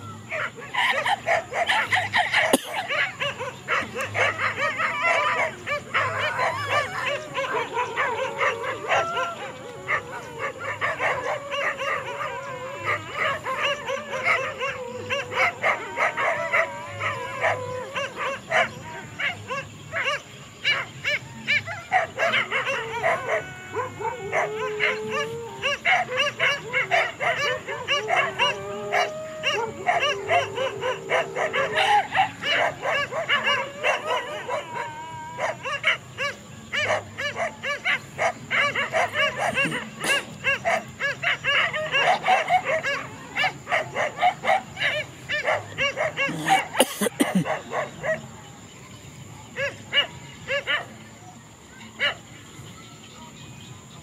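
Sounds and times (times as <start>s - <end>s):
dogs wavering cries: 0.0s - 48.4s
dogs barking and yapping: 0.0s - 54.0s.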